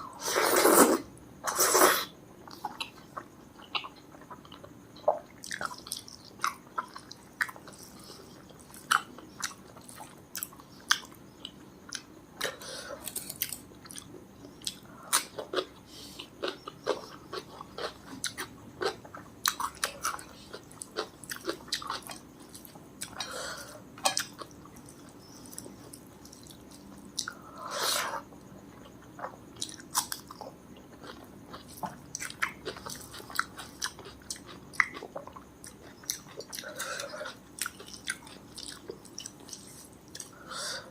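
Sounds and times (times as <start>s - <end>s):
chewing food: 2.5s - 23.3s, 24.0s - 27.4s, 28.3s - 40.4s.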